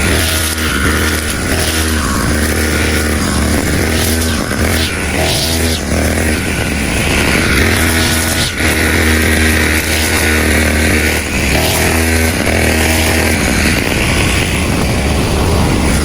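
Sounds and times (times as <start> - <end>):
brush cutter cutting grass: 0.0 - 16.0.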